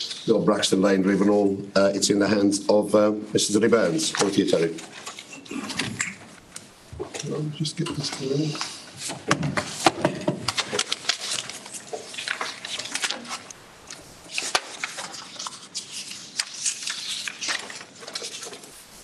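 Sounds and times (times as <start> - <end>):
papers rustling: 3.4 - 19.0.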